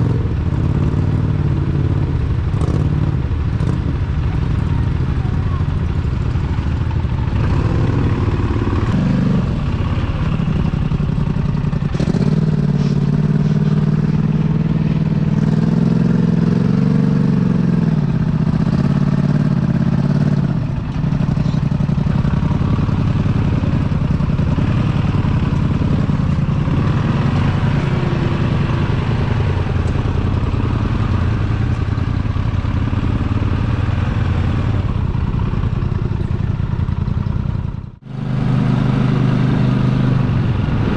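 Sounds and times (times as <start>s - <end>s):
truck engine revving: 0.0s - 37.1s, 38.0s - 40.9s.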